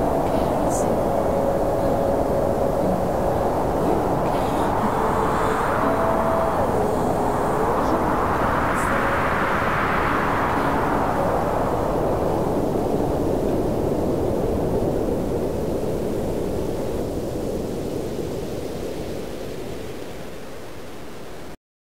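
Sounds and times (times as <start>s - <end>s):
steady rushing noise: 0.0s - 21.2s.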